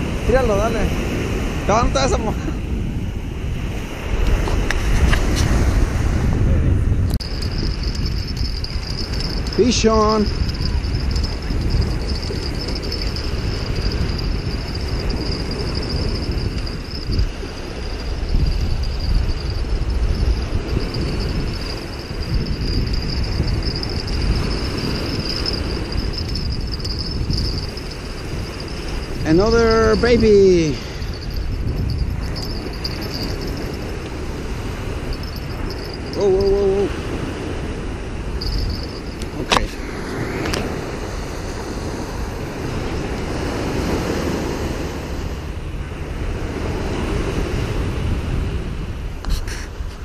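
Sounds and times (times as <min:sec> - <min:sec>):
small waves breaking on beach: 0:00.0 - 0:50.0
wind rumbling on microphone: 0:00.0 - 0:50.0
crickets trilling: 0:07.1 - 0:50.0.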